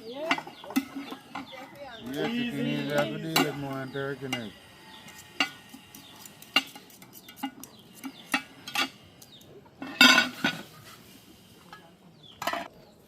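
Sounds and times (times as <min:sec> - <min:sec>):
dishes and utensils clinking: 0:00.1 - 0:04.5, 0:05.1 - 0:09.0, 0:09.8 - 0:11.0, 0:11.7 - 0:12.7.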